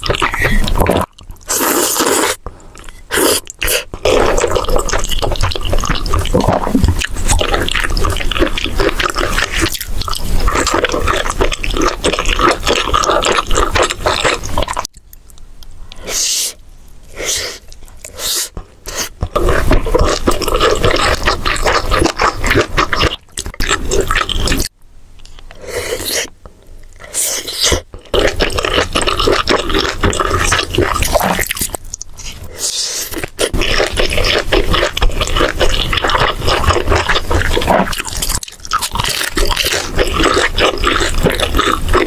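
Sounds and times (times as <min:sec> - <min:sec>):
loud crackly chewing: 0:00.0 - 0:15.2, 0:17.6 - 0:42.0.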